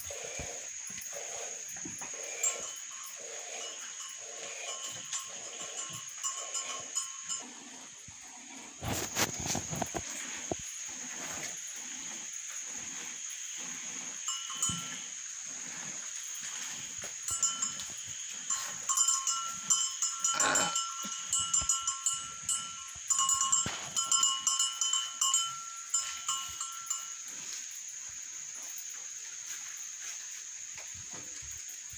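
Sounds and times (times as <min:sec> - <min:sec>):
cow neck bell jangling: 0:00.0 - 0:30.0.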